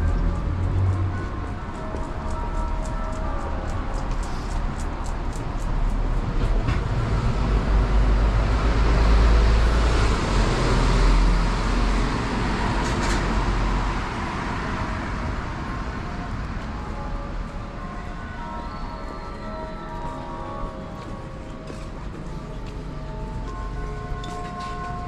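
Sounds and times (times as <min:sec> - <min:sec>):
bus passing by: 0:00.0 - 0:25.0.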